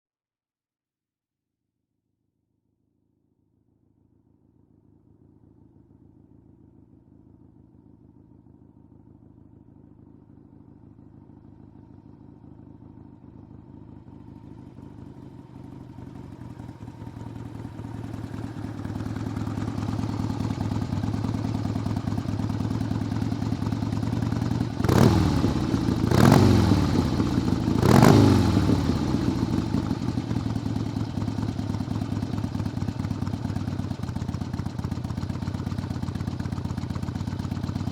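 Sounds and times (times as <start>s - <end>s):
motorcycle engine approaching and idling: 4.6s - 37.9s.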